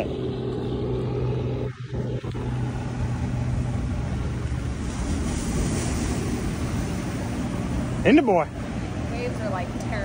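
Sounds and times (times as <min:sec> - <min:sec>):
helicopter drone: 0:00.0 - 0:10.0
surf washing: 0:00.0 - 0:10.0.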